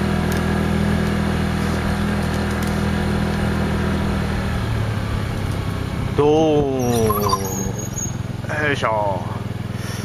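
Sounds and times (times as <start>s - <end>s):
vehicle engine low hum: 0.0s - 10.0s.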